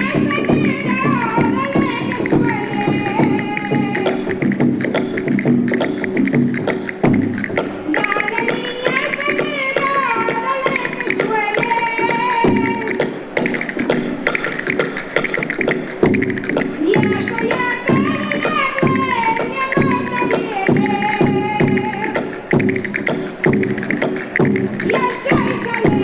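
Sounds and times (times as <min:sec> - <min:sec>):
fast percussion taps: 0:00.0 - 0:26.0
high wavering melody: 0:00.0 - 0:26.0.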